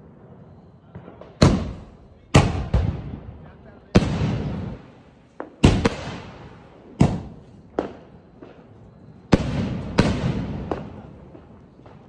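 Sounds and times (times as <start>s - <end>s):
fireworks bursting with echo: 0.0s - 12.0s
small firework pops: 0.8s - 3.2s, 3.9s - 6.4s, 7.0s - 12.0s.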